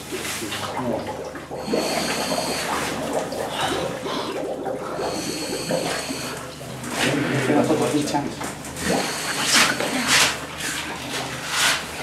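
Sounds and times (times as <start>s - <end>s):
water gurgling and sloshing: 0.0s - 12.0s.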